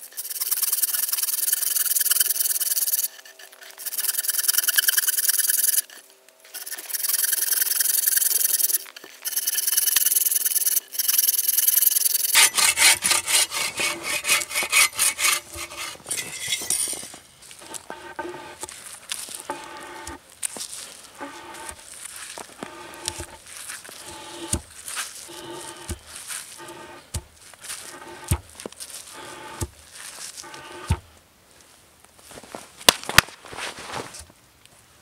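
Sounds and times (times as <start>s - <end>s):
hand saw cutting log: 0.0s - 6.0s, 6.6s - 31.1s.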